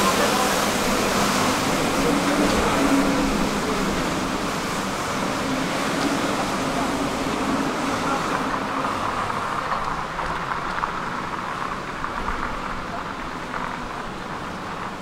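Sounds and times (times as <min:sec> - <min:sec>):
distant road traffic hum: 0:00.0 - 0:15.0.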